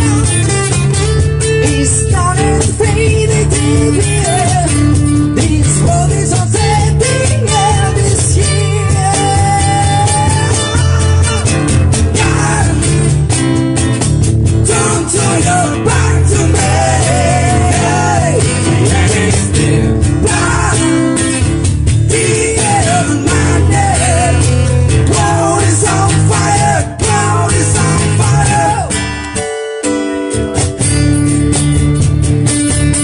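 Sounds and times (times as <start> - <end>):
cajon beat: 0.0 - 33.0
electric bass: 0.0 - 33.0
live rock band: 0.0 - 33.0
strummed acoustic guitars: 0.0 - 33.0.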